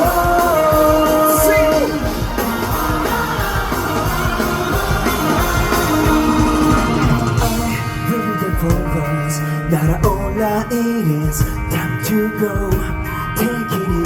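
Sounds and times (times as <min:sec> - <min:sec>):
rock band playing instrumental: 0:00.0 - 0:14.0.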